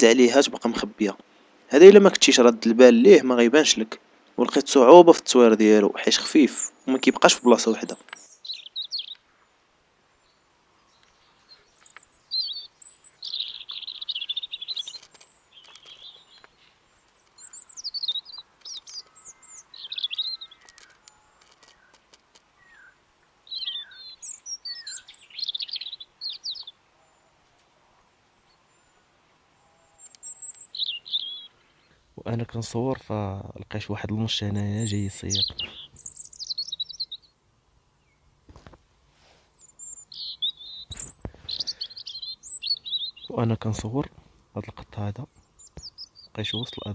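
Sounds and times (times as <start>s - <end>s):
songbird warbling and chirping: 6.2s - 33.1s, 34.0s - 38.4s, 39.5s - 46.9s.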